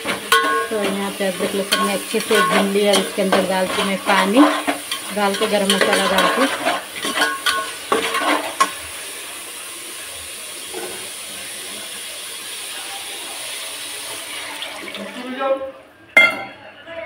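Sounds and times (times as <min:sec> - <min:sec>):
paste sizzling in a pot: 0:00.0 - 0:15.4.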